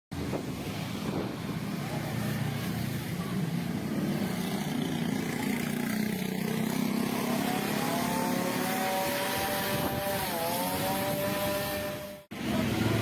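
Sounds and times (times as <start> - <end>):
vehicle engines running: 0.2 - 13.0.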